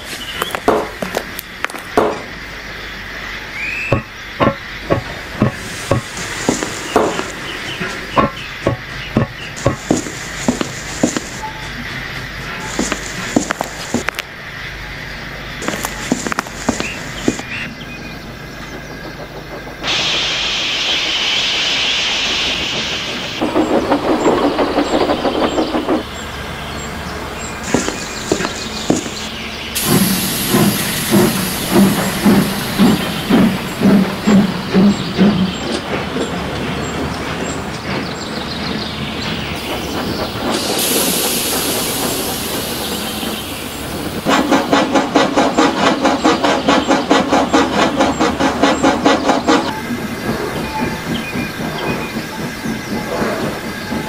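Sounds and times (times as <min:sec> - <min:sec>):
steam locomotive chuffing: 0:00.0 - 0:54.0
steam hissing: 0:02.3 - 0:17.6, 0:18.7 - 0:54.0.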